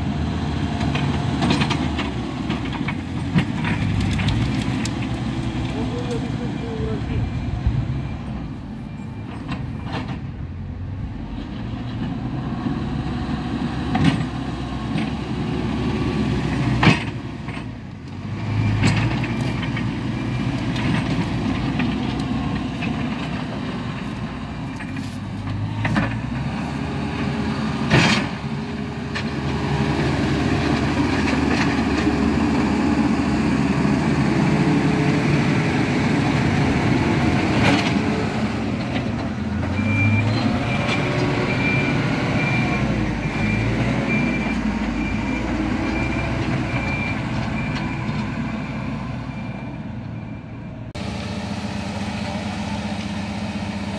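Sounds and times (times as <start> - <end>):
heavy diesel machines running: 0.0 - 53.9.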